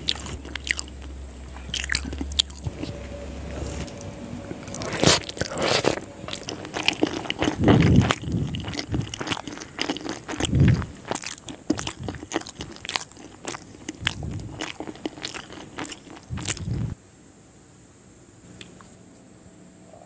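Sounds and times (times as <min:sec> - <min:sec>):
chewing and slurping noodles: 0:00.0 - 0:17.0.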